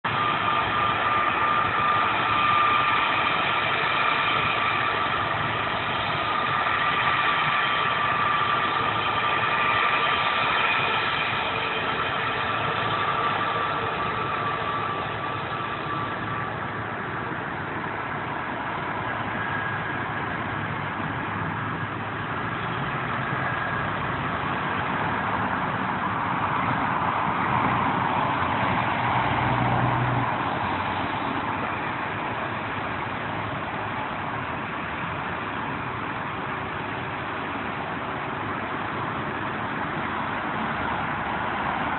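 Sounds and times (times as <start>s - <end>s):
jet engines whining: 0.0s - 41.9s.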